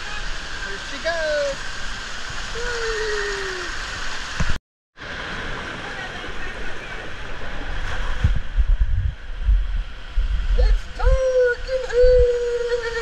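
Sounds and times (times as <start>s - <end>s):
water rushing down waterslide: 0.0s - 13.0s.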